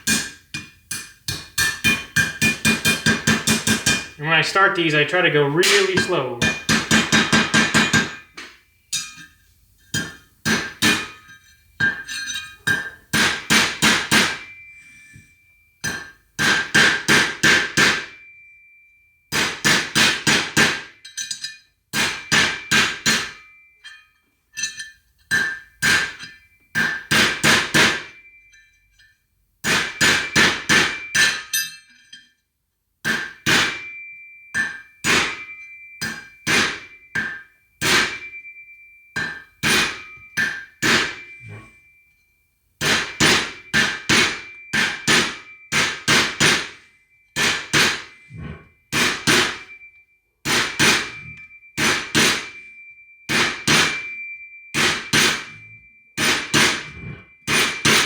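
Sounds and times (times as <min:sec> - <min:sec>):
hammer striking metal: 0:00.0 - 0:18.3, 0:19.3 - 0:24.0, 0:24.6 - 0:28.6, 0:29.6 - 0:32.2, 0:33.0 - 0:42.0, 0:42.8 - 0:58.0.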